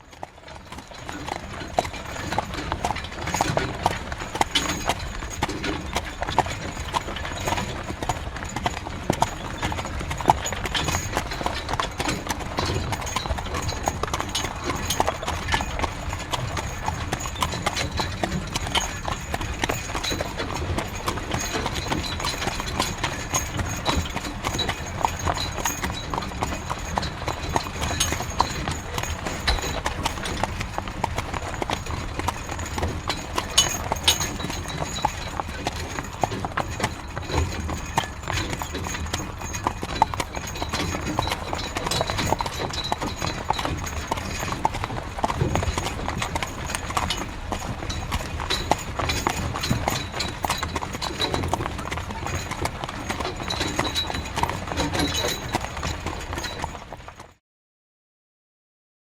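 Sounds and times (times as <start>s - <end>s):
horse hooves clip-clopping: 0.0s - 57.4s.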